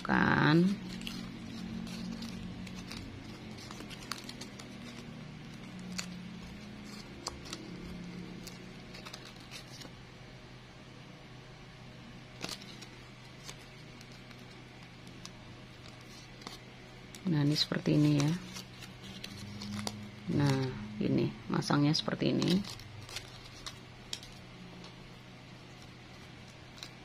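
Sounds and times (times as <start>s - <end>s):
plastic crinkling by hand: 0.0s - 10.0s, 12.3s - 27.0s
steady low hum: 0.0s - 27.0s.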